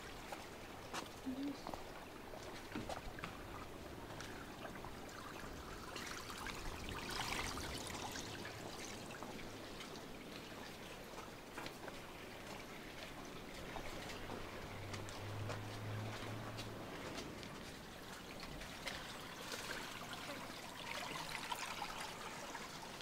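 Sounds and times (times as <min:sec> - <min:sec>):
trickle of running water: 0:00.0 - 0:23.0
water ticks and drips: 0:00.0 - 0:23.0.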